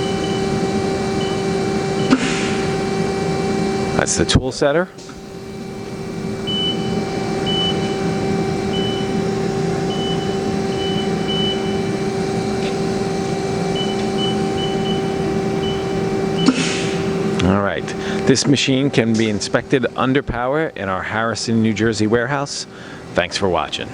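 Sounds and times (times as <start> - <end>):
machine running with steady hum: 0.0 - 23.9.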